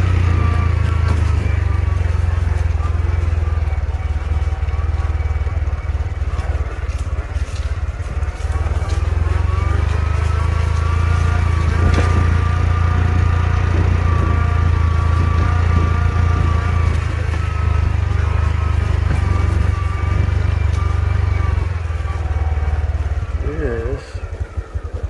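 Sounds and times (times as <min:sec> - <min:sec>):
low wind rumble: 0:00.0 - 0:25.0
motorcycle engine running: 0:00.0 - 0:25.0.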